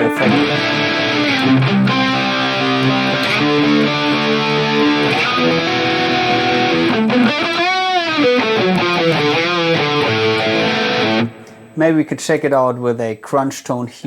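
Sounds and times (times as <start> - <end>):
electric guitar chords with chorus: 0.0 - 11.8.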